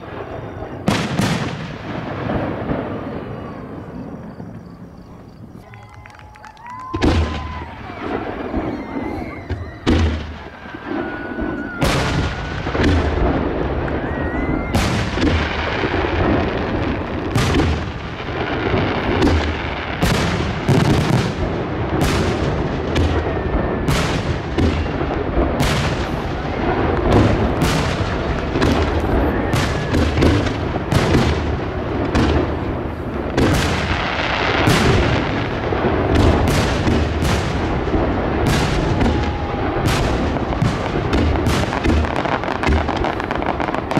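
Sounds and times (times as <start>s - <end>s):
fireworks bursting with loud bangs: 0.0s - 43.9s.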